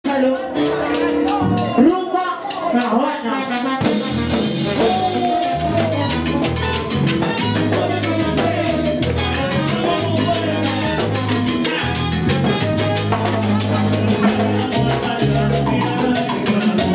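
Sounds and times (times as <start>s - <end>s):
salsa band playing: 0.0s - 16.9s.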